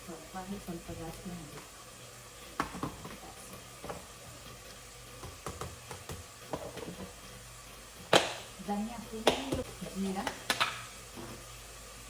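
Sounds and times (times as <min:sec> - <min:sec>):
spices sizzling in a pan: 0:00.0 - 0:12.0.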